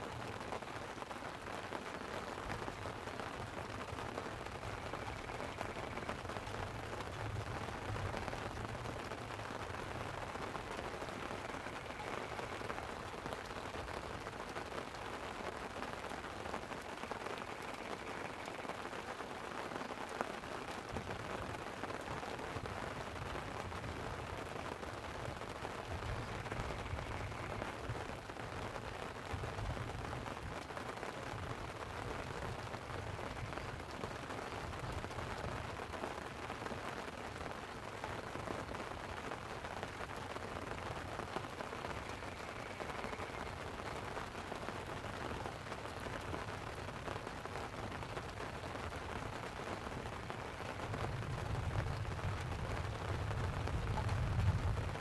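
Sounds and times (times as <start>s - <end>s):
rain pattering on a tent: 0.0s - 55.0s
small crackles and clicks: 0.0s - 55.0s.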